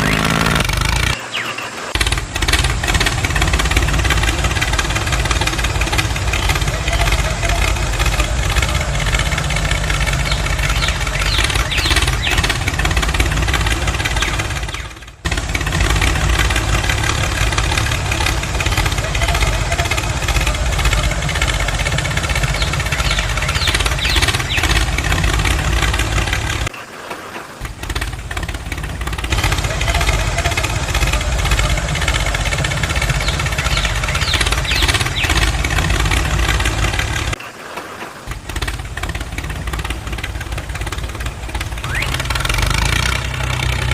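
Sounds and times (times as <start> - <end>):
small engine running: 0.0 - 26.7, 27.6 - 37.4, 38.3 - 43.9.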